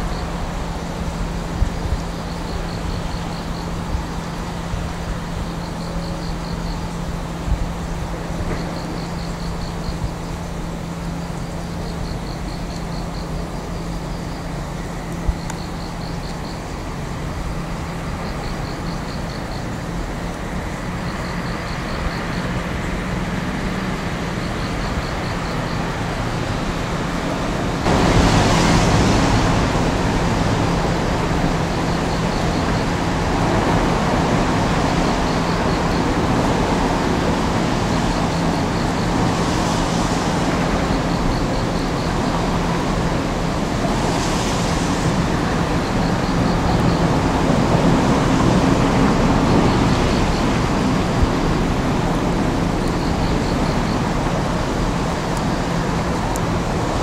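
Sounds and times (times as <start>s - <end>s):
diesel machinery running: 0.0s - 57.0s.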